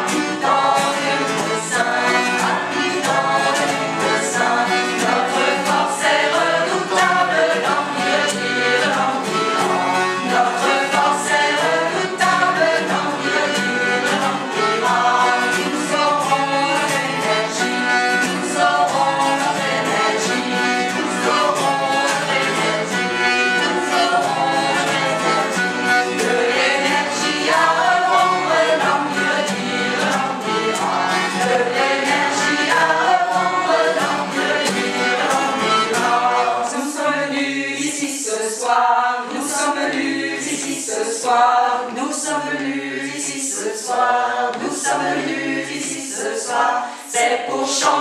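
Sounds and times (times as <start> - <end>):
acoustic guitar: 0.0 - 48.0
choir singing in harmony: 0.0 - 48.0.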